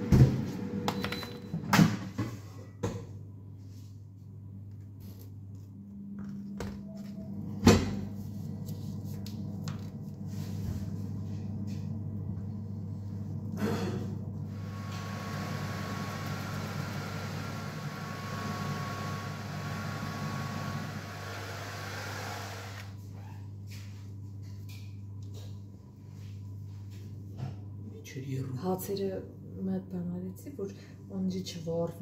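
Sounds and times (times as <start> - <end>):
appliance fan whirring: 0.0 - 32.0
low steady hum: 0.1 - 19.1, 22.8 - 32.0.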